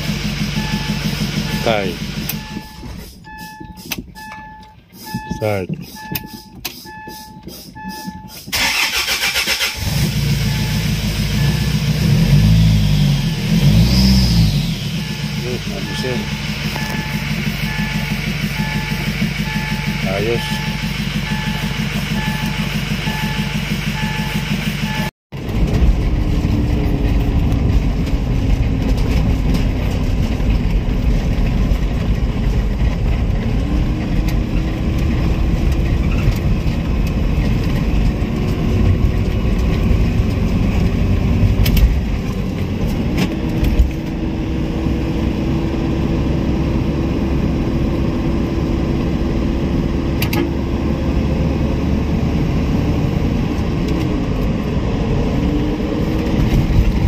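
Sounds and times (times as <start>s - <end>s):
diesel engine: 0.0s - 57.0s
road noise: 0.0s - 57.0s.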